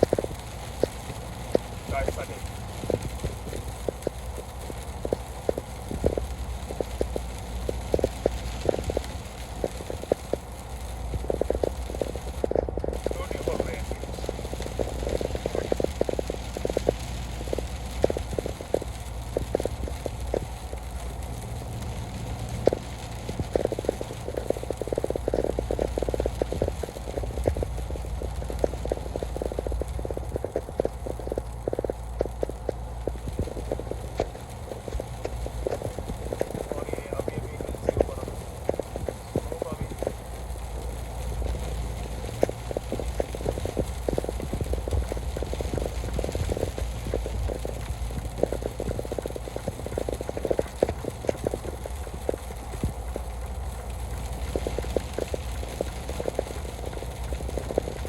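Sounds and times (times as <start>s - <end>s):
heavy rain tapping on a vehicle: 0.0s - 58.0s
vehicle road rumble: 0.0s - 58.0s.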